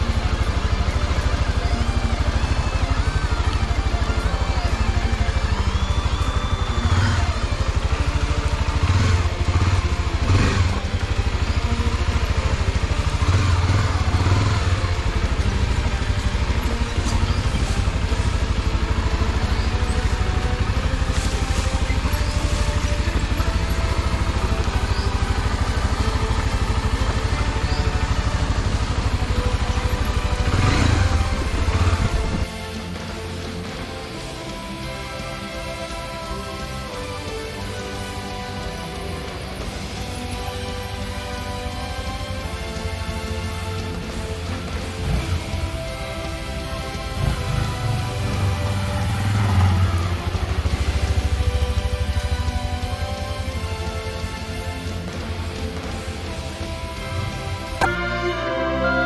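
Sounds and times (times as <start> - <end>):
motorcycle engine running: 0.0 - 58.1.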